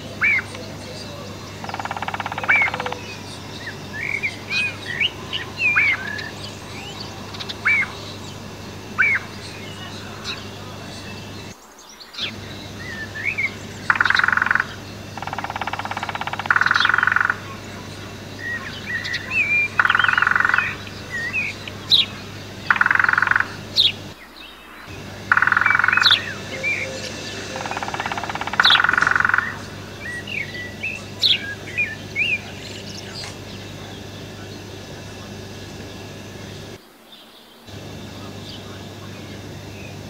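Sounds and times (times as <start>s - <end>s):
buzzy rattling bird trills: 0.0s - 36.8s
birds chirping with rising whistles: 0.0s - 40.0s.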